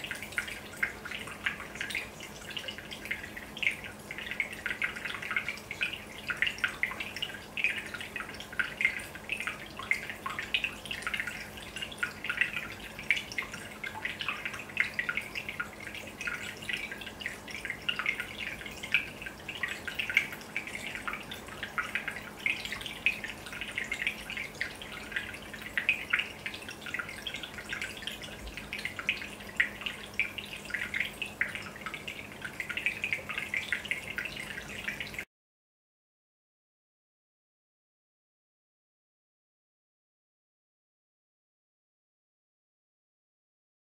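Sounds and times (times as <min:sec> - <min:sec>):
aquarium bubbles popping: 0:00.0 - 0:35.2.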